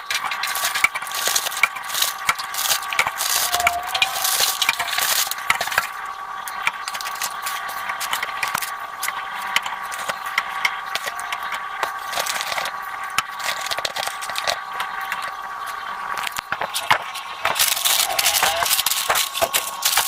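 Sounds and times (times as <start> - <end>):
groceries knocking and rattling: 0.0 - 20.0.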